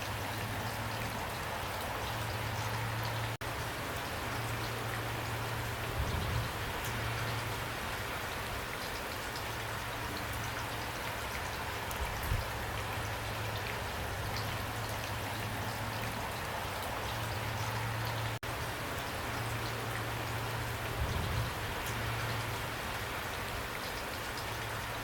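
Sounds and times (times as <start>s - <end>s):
heavy rainfall hiss: 0.0s - 25.0s
raindrops tapping on surface: 0.0s - 25.0s.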